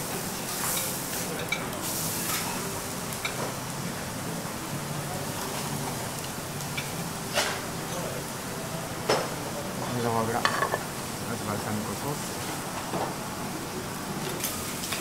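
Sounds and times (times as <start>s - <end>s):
sizzling on steel griddle: 0.0s - 15.0s.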